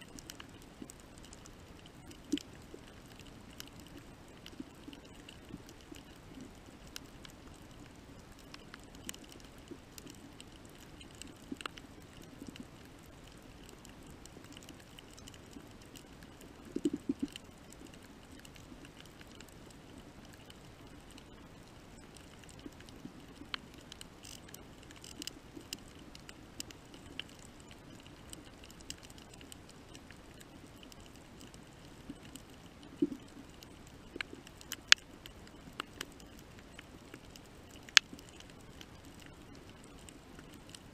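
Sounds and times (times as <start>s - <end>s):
sharp clicks and crackles: 0.0s - 40.9s.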